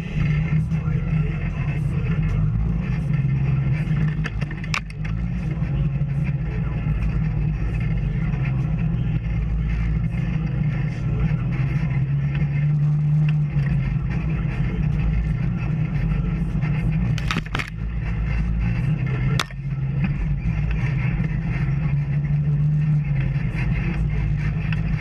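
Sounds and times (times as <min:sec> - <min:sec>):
off-road vehicle engine droning: 0:00.0 - 0:25.0.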